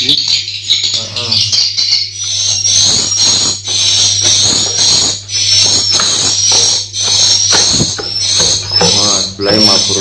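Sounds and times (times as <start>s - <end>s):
steady low hum: 0.0s - 10.0s
swiftlets twittering: 0.0s - 10.0s.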